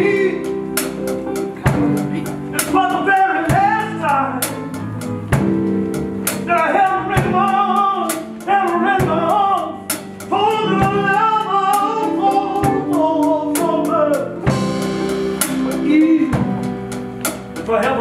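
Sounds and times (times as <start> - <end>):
bending lead melody: 0.0 - 18.0
drum kit striking: 0.0 - 18.0
soul band playing a slow ballad: 0.0 - 18.0.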